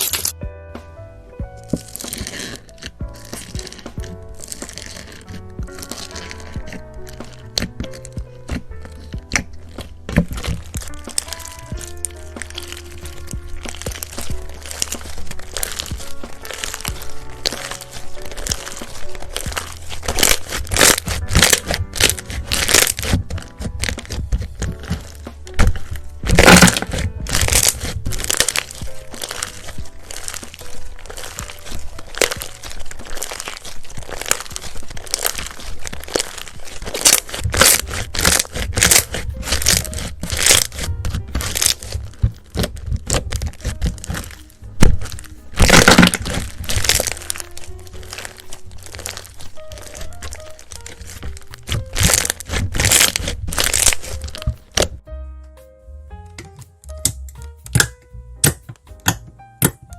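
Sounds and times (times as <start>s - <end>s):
slime crackling and crunching: 0.0s - 0.4s, 1.5s - 55.1s, 56.9s - 59.9s
background music with low bass: 0.0s - 59.9s.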